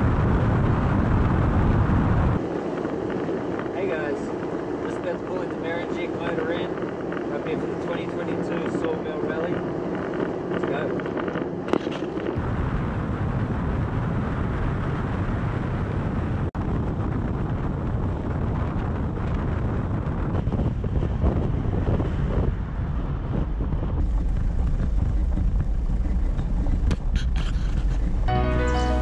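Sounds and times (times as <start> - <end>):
wind buffeting microphone: 0.0 - 28.3
road and engine rumble: 0.0 - 29.0.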